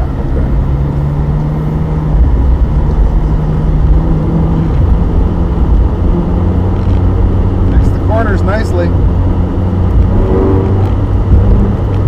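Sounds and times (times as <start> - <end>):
car engine cruising: 0.0 - 12.0.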